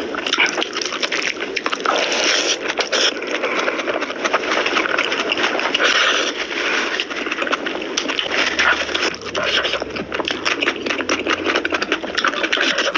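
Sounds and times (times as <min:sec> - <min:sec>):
wet chewing and slurping: 0:00.0 - 0:12.9.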